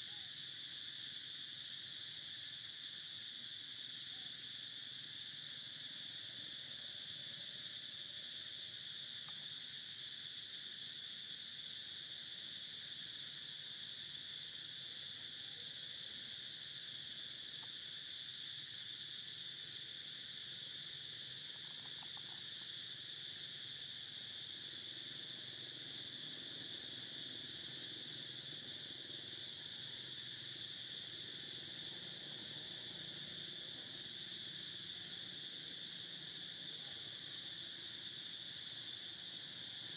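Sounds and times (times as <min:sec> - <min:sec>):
insect chorus buzzing: 0:00.0 - 0:39.9.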